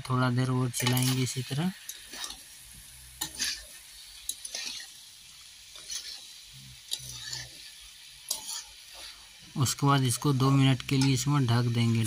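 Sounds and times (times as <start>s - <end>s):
vegetables sizzling in oil: 0.0s - 12.0s
spatula scraping a pan: 0.7s - 11.3s.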